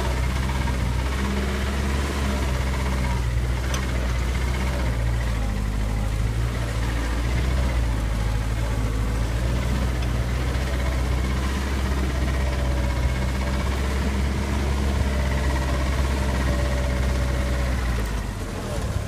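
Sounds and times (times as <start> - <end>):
jeep engine running: 0.0 - 19.0.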